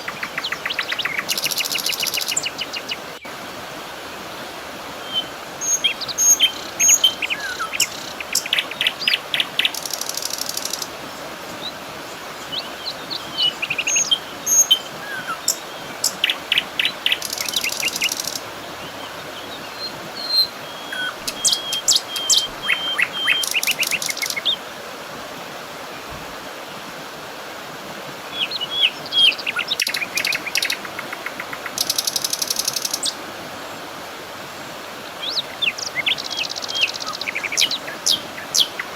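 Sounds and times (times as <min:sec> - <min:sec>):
songbirds chirping and trilling: 0:00.0 - 0:03.2, 0:05.0 - 0:24.6, 0:28.3 - 0:33.2, 0:35.1 - 0:38.9
steady rushing hiss: 0:00.0 - 0:38.9.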